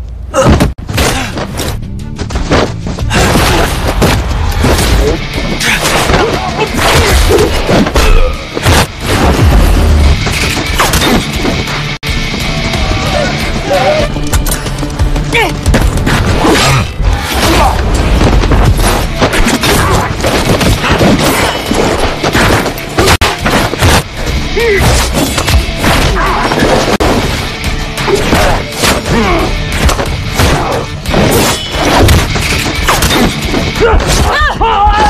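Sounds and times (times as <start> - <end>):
dramatic action music: 0.0 - 35.0.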